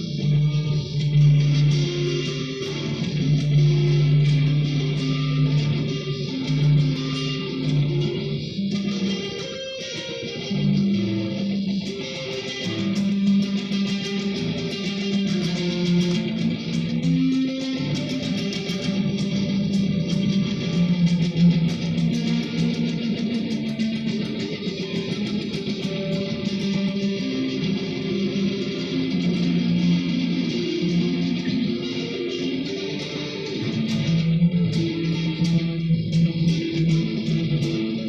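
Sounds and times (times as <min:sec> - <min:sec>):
electric guitar sustained notes: 0:00.0 - 0:38.0.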